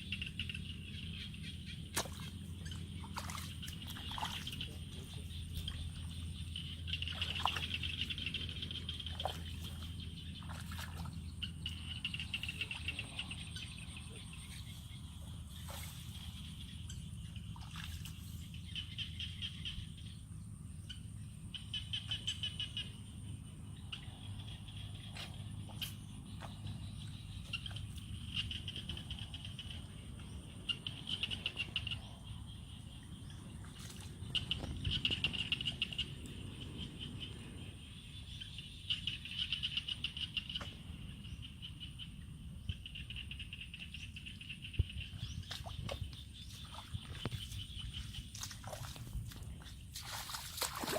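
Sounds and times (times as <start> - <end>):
bird chirps: 0.0 - 49.0
low steady rumble: 0.0 - 50.9.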